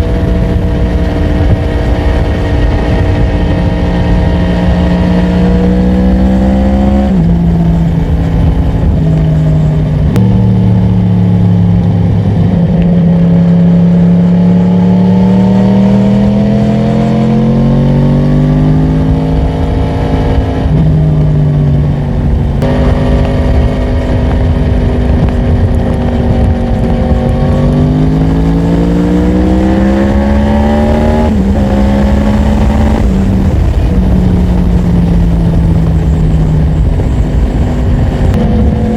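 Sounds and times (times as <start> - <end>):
motorcycle engine accelerating: 0.0 - 38.9
wind rushing: 0.0 - 38.9.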